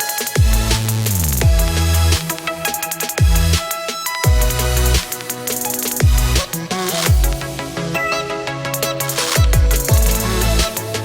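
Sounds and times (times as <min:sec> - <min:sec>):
drum and bass music: 0:00.0 - 0:11.0.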